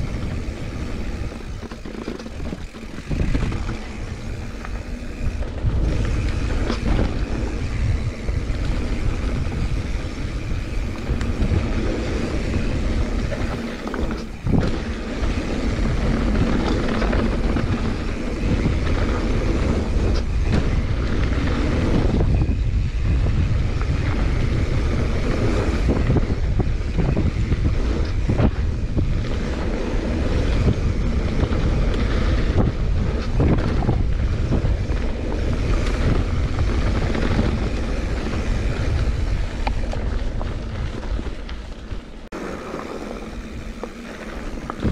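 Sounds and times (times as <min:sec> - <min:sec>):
bike knocks and rattles: 0:00.0 - 0:44.9
bike tyres rolling on dirt: 0:00.0 - 0:44.9
wind buffeting microphone: 0:00.0 - 0:44.9.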